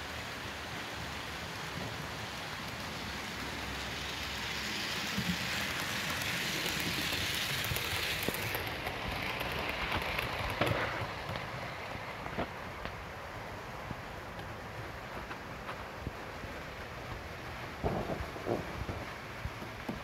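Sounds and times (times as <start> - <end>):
heavy rain: 0.0 - 20.0
model train passing: 0.0 - 20.0
wheels clicking on track: 1.7 - 20.0.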